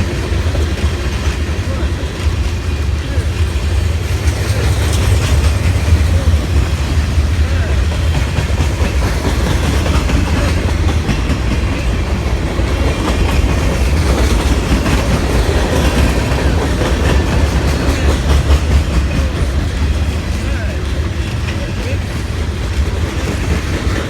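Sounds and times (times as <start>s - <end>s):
freight train rumbling past: 0.0s - 24.0s
wheels clacking over rail joints: 0.0s - 24.0s.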